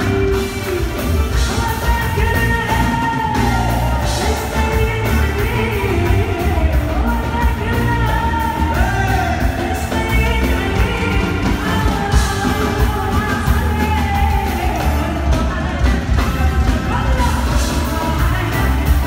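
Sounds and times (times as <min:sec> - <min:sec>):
pop band playing: 0:00.0 - 0:19.0
woman singing: 0:00.0 - 0:19.0.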